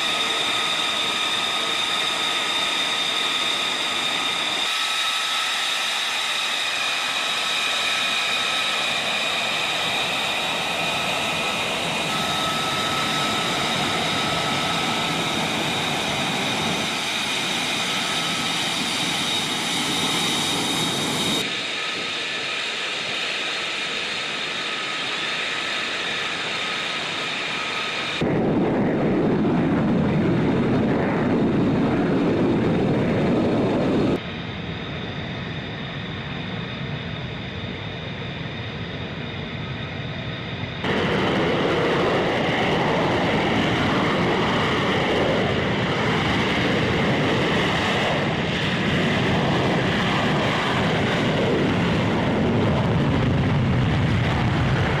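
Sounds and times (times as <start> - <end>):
jet engine whine: 0.0 - 55.0
jet passing by: 0.0 - 55.0.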